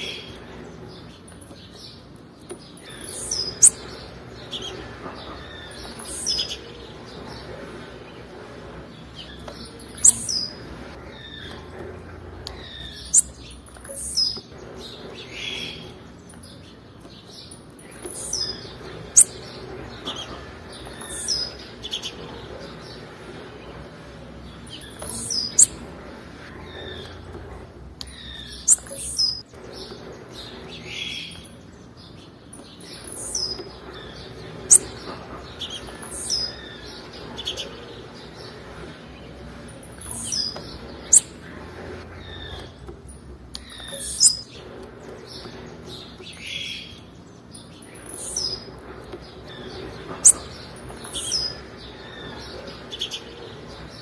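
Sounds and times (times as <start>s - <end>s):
bird high-pitched chirps: 0.0s - 7.4s, 9.2s - 11.8s, 12.5s - 22.8s, 24.7s - 27.3s, 28.0s - 32.2s, 32.8s - 38.6s, 39.3s - 41.6s, 42.2s - 53.9s.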